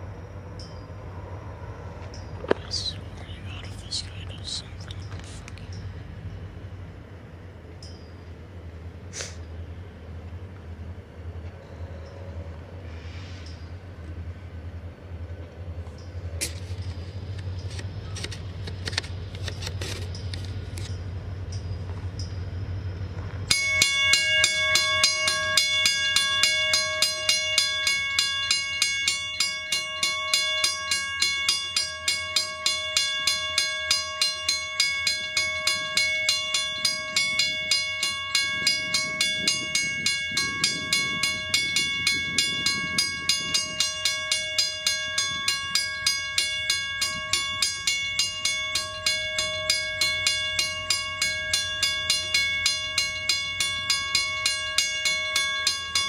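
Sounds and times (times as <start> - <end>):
railroad crossing bell ringing: 0.0 - 56.0.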